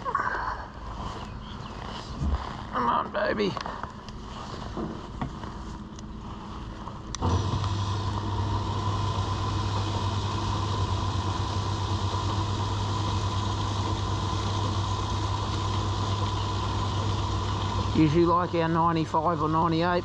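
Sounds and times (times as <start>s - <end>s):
pump motor humming and whining: 0.0s - 20.0s.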